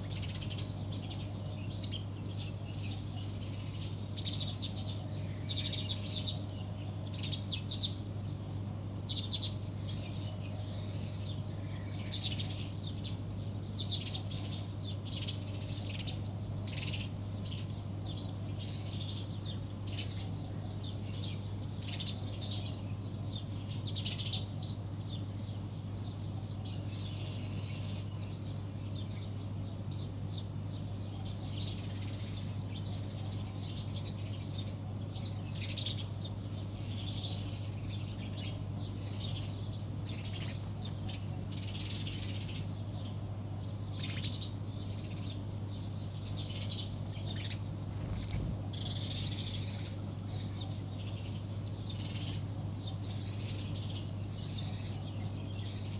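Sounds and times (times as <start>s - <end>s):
small birds chirping: 0.0s - 55.9s
steady low hum: 0.0s - 55.9s.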